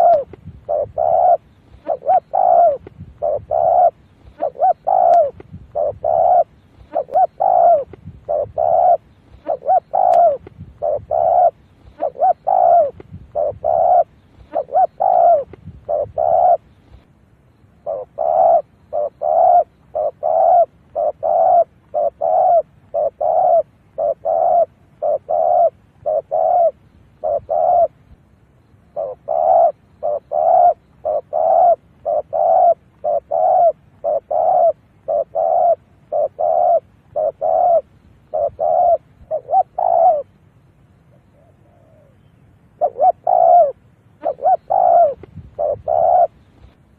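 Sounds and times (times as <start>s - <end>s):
dove cooing: 0.0s - 17.1s, 17.8s - 28.0s, 28.9s - 40.4s, 41.1s - 46.8s.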